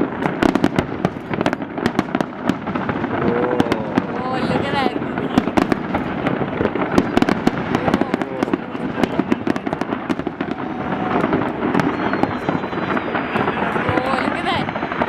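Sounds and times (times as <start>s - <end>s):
fireworks bangs and crackles: 0.0s - 15.0s
crowd murmuring: 2.9s - 15.0s.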